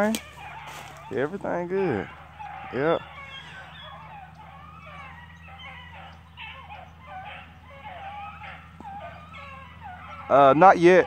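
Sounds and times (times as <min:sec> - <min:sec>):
dogs baying and yelping: 0:00.0 - 0:11.0.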